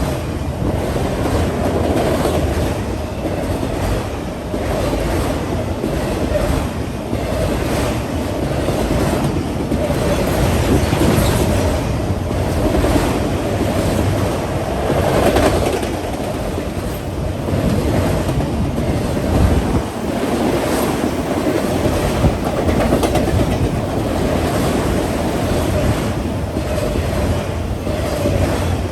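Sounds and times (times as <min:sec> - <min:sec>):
train cars rolling on rails: 0:00.0 - 0:28.9
wheels clickety-clack: 0:00.0 - 0:28.9.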